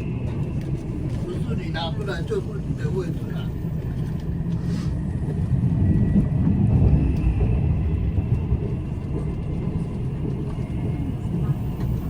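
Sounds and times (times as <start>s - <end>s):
train coach low rumble: 0.0s - 12.0s.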